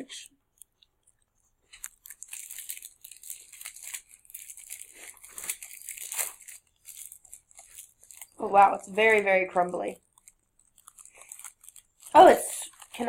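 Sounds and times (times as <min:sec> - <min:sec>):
plastic wrapper crinkling and tearing: 0:00.5 - 0:13.0.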